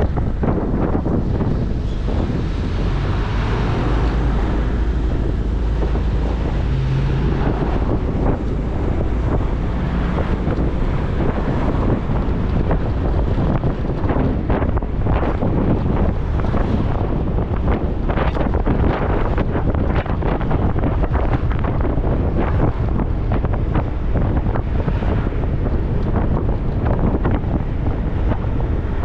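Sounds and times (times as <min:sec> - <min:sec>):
road noise: 0:00.0 - 0:29.0
wind buffeting microphone: 0:00.0 - 0:29.0.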